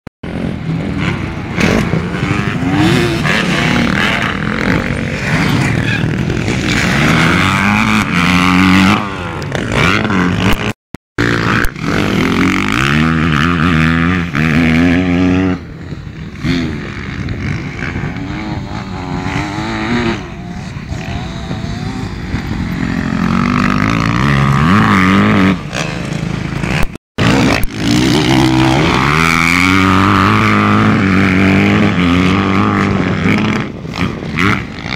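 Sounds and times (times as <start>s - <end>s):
motocross bike engines revving: 0.2s - 34.9s.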